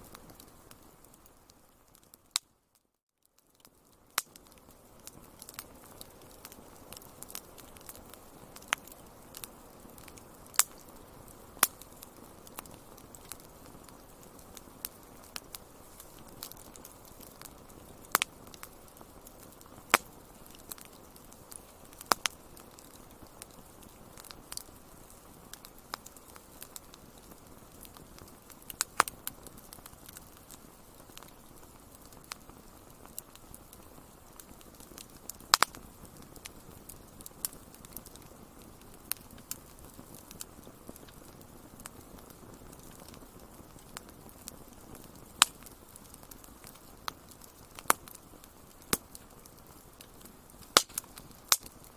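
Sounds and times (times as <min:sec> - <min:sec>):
soft steady hiss: 0:00.0 - 0:51.9
wood fire crackling: 0:00.0 - 0:51.9.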